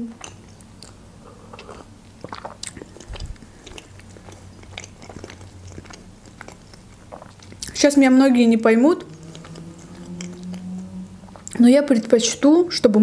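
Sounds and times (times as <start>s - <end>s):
chewing with wet clicks: 0.1s - 7.9s, 9.0s - 11.6s.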